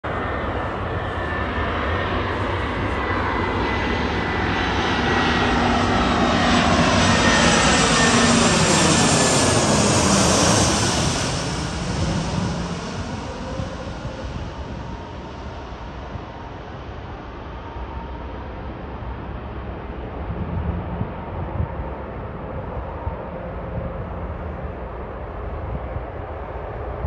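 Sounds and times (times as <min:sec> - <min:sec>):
jet airliner passing overhead: 0:00.0 - 0:27.0.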